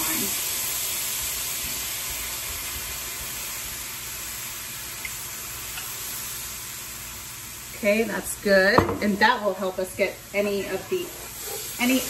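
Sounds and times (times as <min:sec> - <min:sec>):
wine sizzling in hot skillet: 0:00.0 - 0:12.0.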